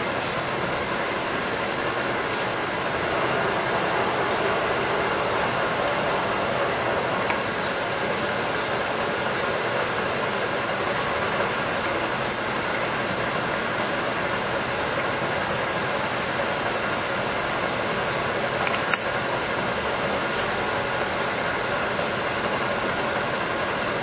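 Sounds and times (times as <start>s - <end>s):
lathe mechanical whir: 0.0s - 24.0s.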